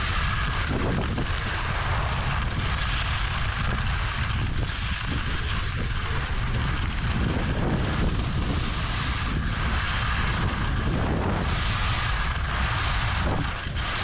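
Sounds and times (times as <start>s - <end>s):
skis hissing over packed snow: 0.0s - 14.0s
wind buffeting microphone: 0.0s - 14.0s.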